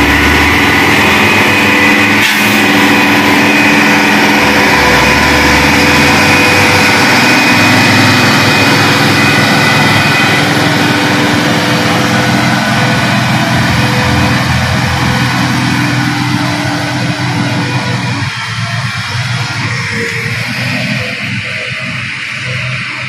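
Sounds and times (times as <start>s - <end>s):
diesel truck engine under load: 0.0s - 23.0s
steady high whine: 0.0s - 23.0s.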